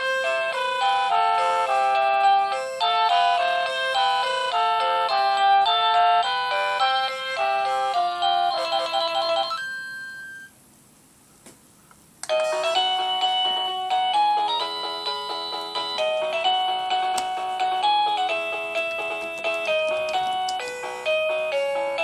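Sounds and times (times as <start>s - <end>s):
electronic door chime melody: 0.1s - 10.6s, 12.3s - 22.0s.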